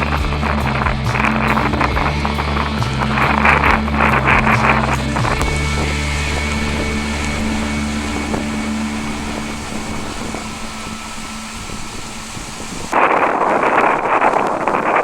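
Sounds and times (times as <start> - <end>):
low mechanical hum: 0.0 - 13.0
wind buffeting microphone: 0.0 - 15.0.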